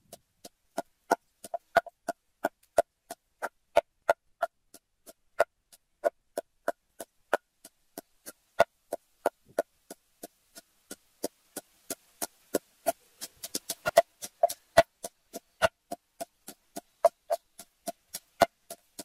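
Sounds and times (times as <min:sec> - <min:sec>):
wooden pestle pounding in mortar: 0:00.0 - 0:09.0, 0:09.9 - 0:19.0.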